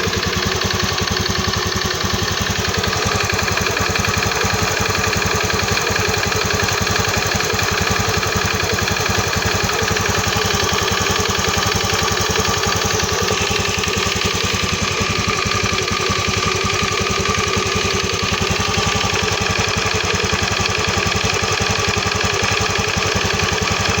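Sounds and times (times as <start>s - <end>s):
scooter engine idling with knocking: 0.0s - 24.0s.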